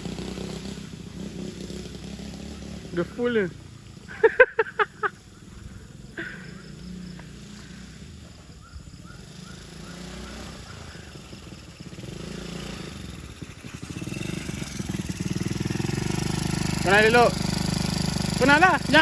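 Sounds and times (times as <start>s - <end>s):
motocross bike engine: 0.0s - 19.0s.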